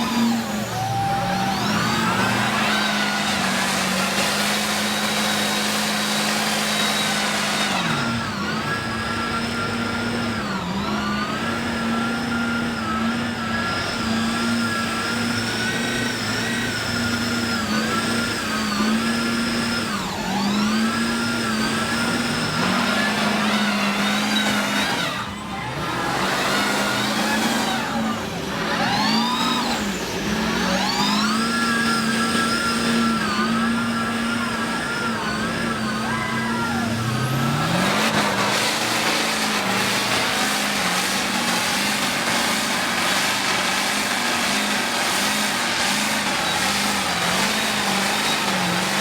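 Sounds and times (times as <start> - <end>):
truck engine revving high: 0.0 - 49.0.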